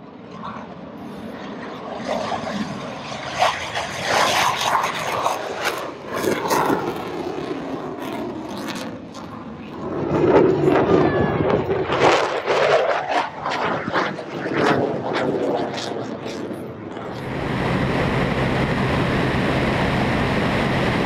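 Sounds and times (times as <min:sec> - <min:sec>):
fighter jet taking off: 0:00.0 - 0:21.0.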